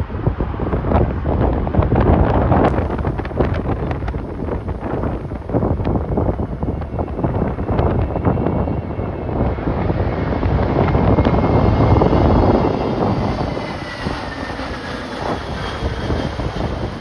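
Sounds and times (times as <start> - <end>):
jet airliner passing: 0.0 - 17.0
wind buffeting microphone: 0.0 - 17.0.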